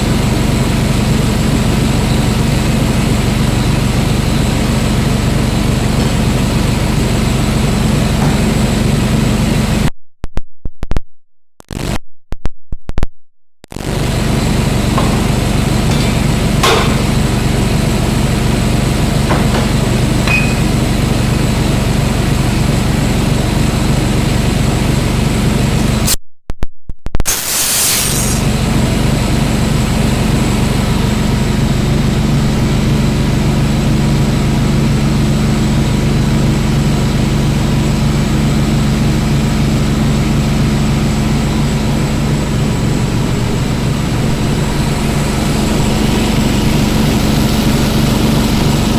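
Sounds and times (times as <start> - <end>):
heavy engine idling: 0.0 - 9.9, 13.8 - 26.0, 28.4 - 48.9.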